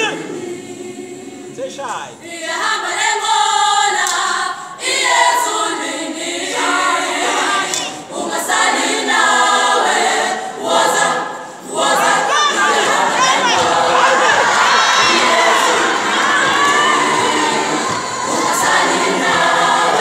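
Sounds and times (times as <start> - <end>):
choir singing a cappella: 0.0 - 20.0.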